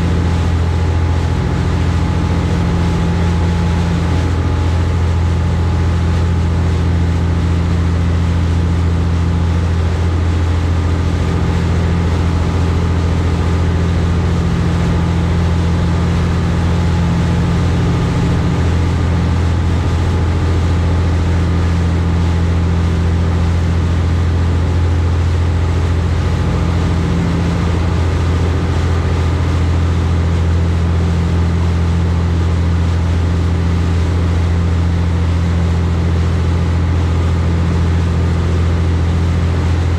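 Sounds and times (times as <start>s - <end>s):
boat engines droning: 0.0s - 39.9s.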